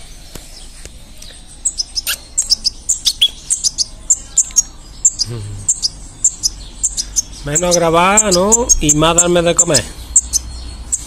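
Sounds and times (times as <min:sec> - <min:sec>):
chick begging chirps: 0:01.2 - 0:11.0.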